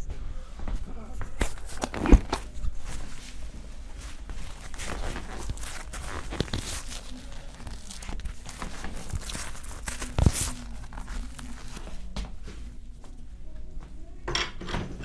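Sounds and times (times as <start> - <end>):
rustling on treatment table: 0.5 - 13.2.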